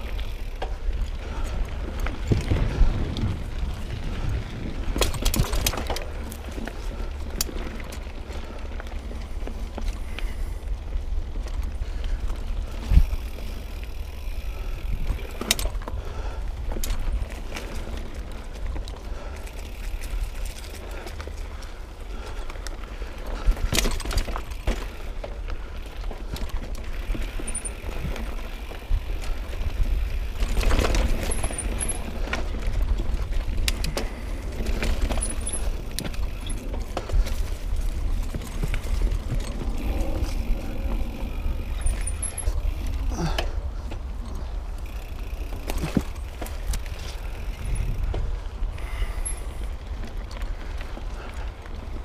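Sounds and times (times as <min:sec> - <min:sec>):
bike rattling on dirt trail: 0:00.0 - 0:52.0
wind rumble on microphone: 0:00.0 - 0:52.0.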